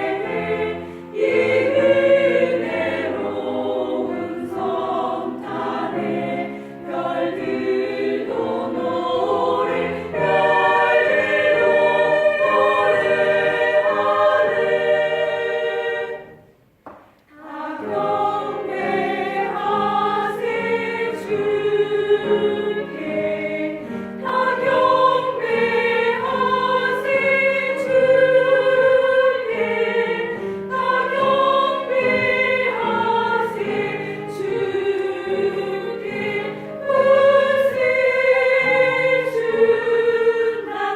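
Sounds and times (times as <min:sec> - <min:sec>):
vocal ensemble singing in harmony: 0:00.0 - 0:16.6, 0:17.3 - 0:40.9.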